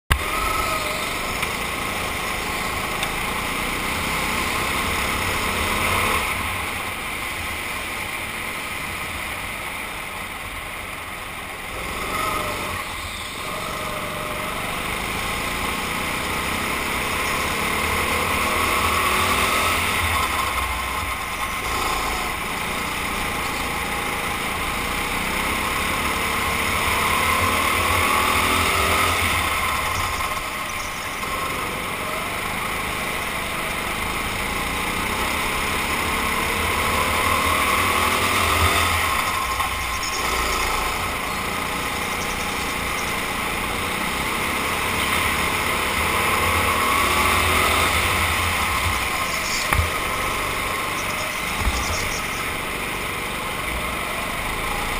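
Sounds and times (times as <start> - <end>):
go-kart engine running hard: 0.1 - 54.9.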